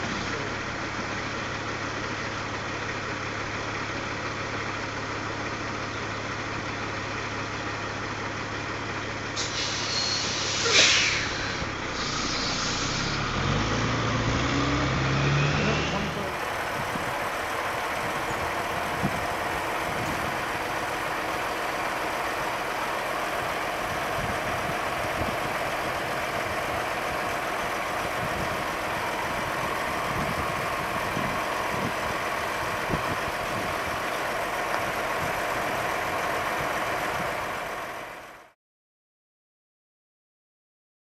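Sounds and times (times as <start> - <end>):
engine and machinery noise: 0.0 - 38.6.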